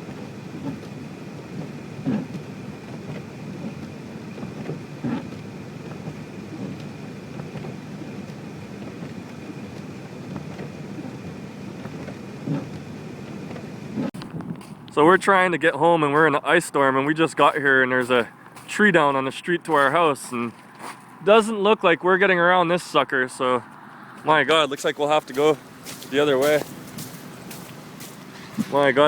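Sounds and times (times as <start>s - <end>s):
tyre and road noise on wet road: 0.0s - 29.0s.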